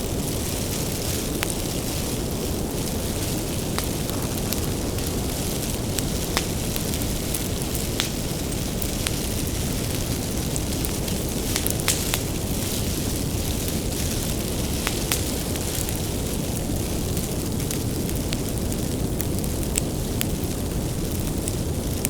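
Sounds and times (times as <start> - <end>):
bonfire burning with low rush: 0.0 - 22.0
firewood crackling and popping: 0.0 - 22.0.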